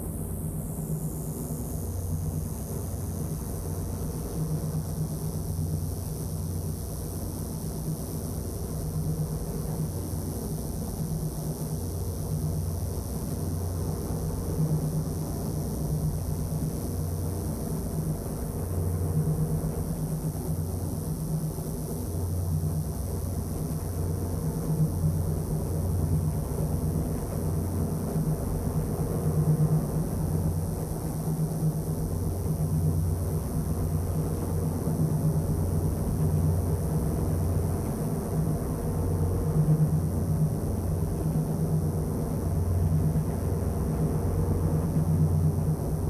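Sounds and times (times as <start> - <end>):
constant hiss: 0.0 - 46.0.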